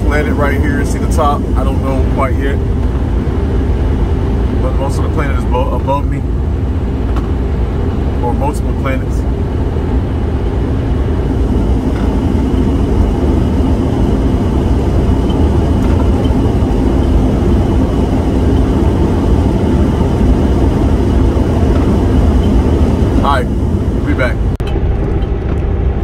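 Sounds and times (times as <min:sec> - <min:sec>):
car cabin road noise: 0:00.0 - 0:26.0.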